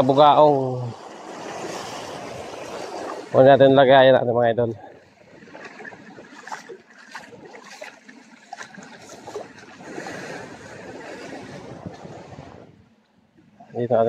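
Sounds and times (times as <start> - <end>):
small waves washing on rocky shore: 0.0 - 3.6, 4.9 - 12.7.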